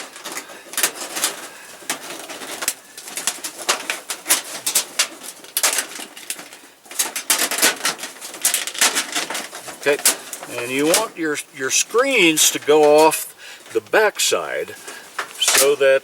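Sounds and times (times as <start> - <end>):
sheet metal crinkling and rattling: 0.0 - 16.0
wires scraping: 0.0 - 16.0.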